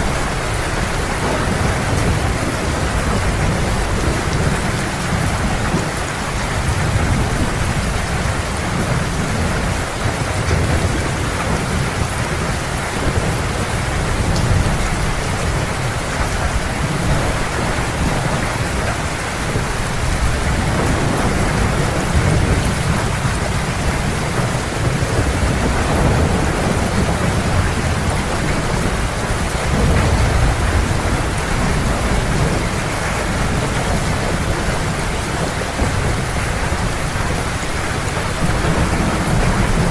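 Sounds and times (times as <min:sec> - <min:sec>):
heavy rain pouring: 0:00.0 - 0:39.9
low thunder rumbling: 0:00.0 - 0:39.9.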